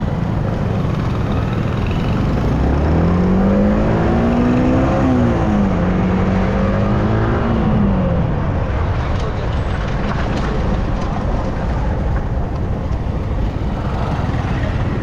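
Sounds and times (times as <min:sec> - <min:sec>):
motorcycle engine accelerating: 0:00.0 - 0:09.4, 0:10.1 - 0:15.0
road rumble: 0:00.0 - 0:15.0
wind noise: 0:00.0 - 0:15.0.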